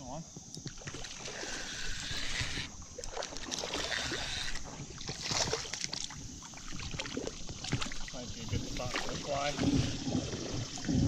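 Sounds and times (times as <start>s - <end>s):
water sloshing and splashing: 0.6s - 11.0s.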